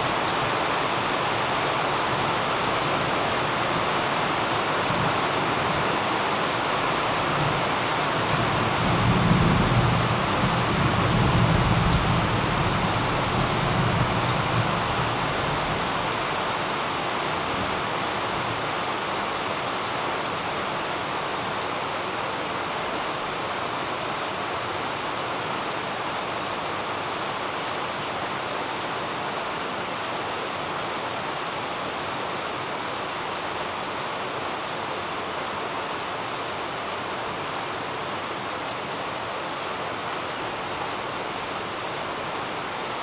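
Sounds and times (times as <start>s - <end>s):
heavy rain hissing: 0.0s - 43.0s.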